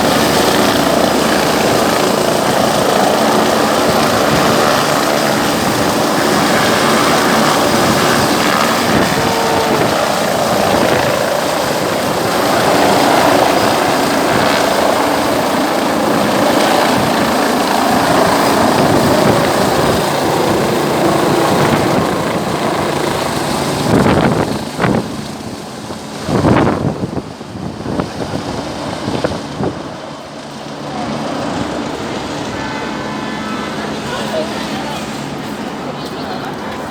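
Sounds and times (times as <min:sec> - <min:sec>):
helicopter rotor and engine: 0:00.0 - 0:36.9.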